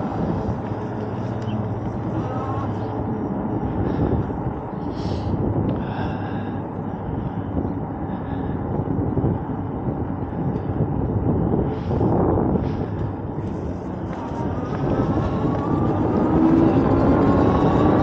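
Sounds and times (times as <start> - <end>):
electric bike tyre noise: 0.0 - 18.0
wind on microphone: 0.0 - 18.0.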